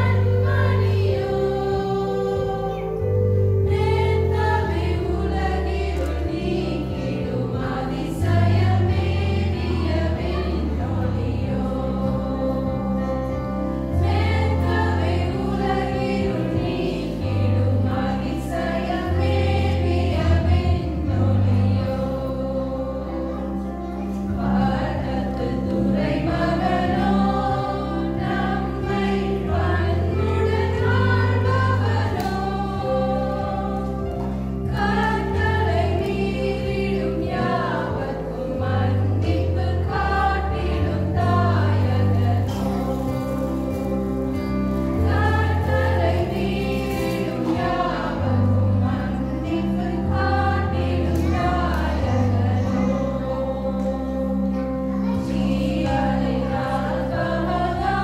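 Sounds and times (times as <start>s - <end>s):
women singing together: 0.0s - 58.0s.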